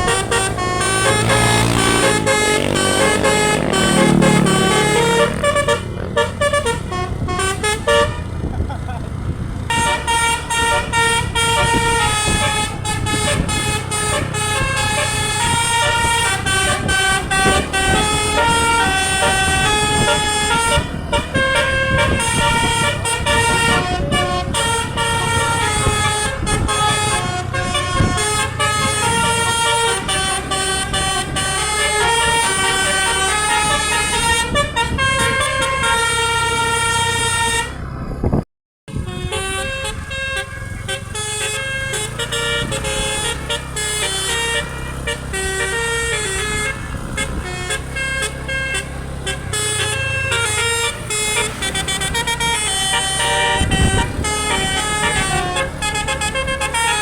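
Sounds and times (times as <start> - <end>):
musical air horn melody: 0.0 - 8.3, 9.7 - 37.8, 38.9 - 57.0
bus engine rumble: 0.0 - 57.0.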